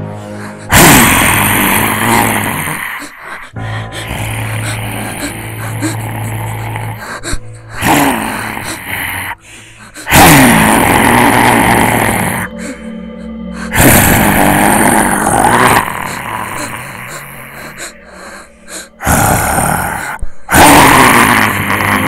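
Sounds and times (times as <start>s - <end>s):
low steady drone: 0.0s - 20.5s.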